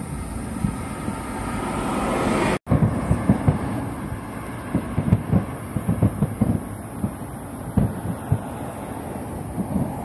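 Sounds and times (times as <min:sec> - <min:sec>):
distant fireworks thuds: 0:00.0 - 0:01.8, 0:02.7 - 0:10.0.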